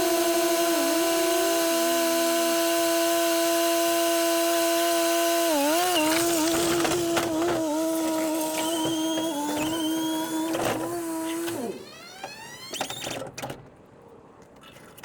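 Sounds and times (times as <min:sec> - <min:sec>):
skid steer engine revving: 0:00.0 - 0:12.9.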